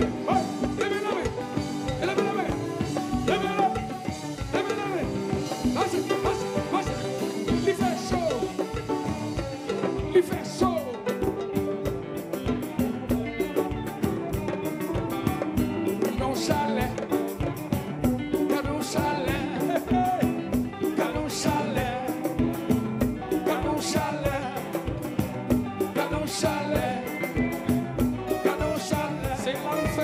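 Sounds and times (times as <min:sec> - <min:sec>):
lead singer singing: 0:00.0 - 0:11.4, 0:15.6 - 0:30.0
congas and drum kit: 0:00.0 - 0:30.0
live band dance music: 0:00.0 - 0:30.0.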